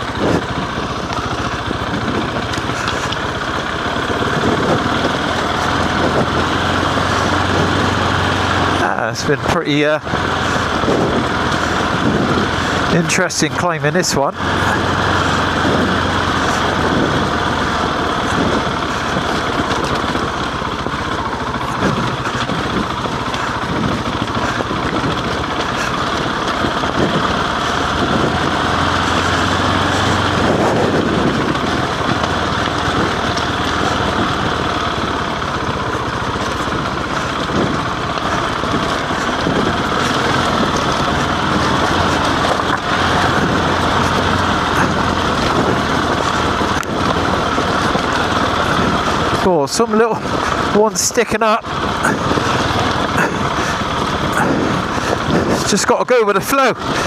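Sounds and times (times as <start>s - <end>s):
motorcycle engine running: 0.0s - 57.0s
riding noise: 0.0s - 57.0s.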